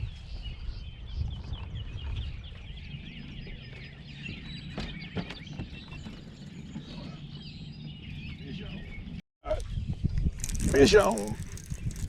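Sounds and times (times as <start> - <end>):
birds chirping: 0.1 - 9.9.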